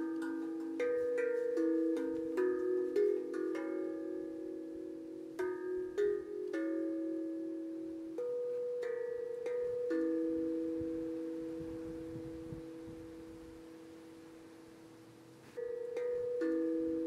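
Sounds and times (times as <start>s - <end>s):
steel tongue drum melody: 0.0s - 17.0s.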